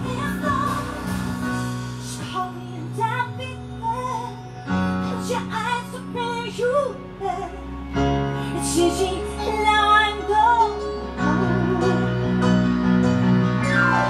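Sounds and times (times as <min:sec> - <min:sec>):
electronic keyboard chords: 0:00.0 - 0:14.0.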